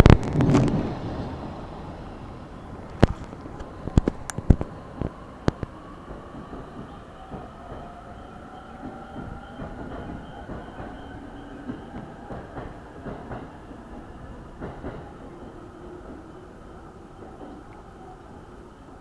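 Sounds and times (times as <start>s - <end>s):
train wheels clicking over joints: 0.0s - 16.4s
train running noise: 0.0s - 19.0s.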